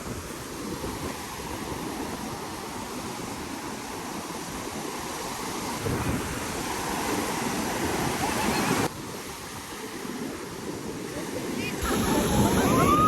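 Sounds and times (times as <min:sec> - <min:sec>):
water rushing: 0:00.0 - 0:09.0, 0:10.4 - 0:13.0
wind on microphone: 0:00.0 - 0:13.0.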